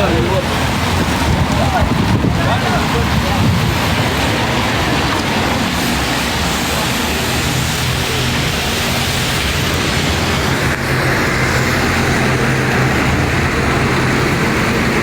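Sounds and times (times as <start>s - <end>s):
low engine hum: 0.0s - 15.0s
rain: 0.0s - 15.0s
road traffic hiss: 0.0s - 15.0s.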